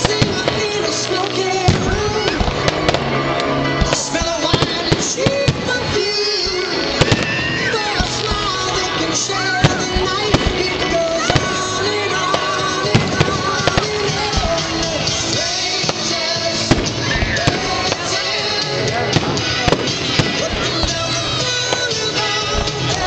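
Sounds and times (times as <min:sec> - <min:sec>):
fireworks bangs and crackles: 0:00.0 - 0:23.0
song with singing: 0:00.0 - 0:23.0.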